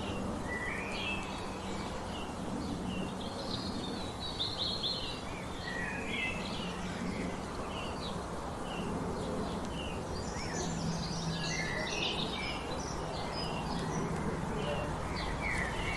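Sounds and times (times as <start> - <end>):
steady background noise: 0.0 - 15.9
wild birds chirping and singing: 0.0 - 15.9.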